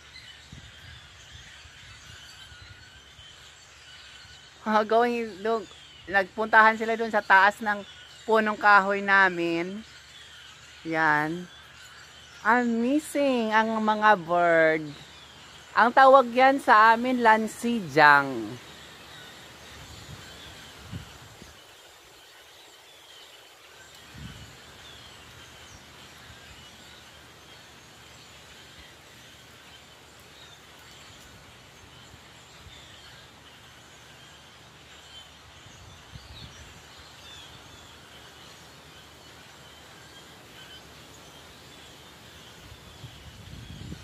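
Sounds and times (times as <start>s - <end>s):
flock of birds chirping: 0.0s - 44.0s
steady background hiss: 0.0s - 44.0s.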